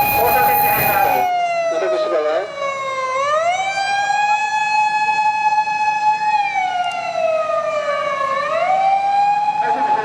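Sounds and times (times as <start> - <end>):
emergency vehicle wail siren: 0.0 - 10.0.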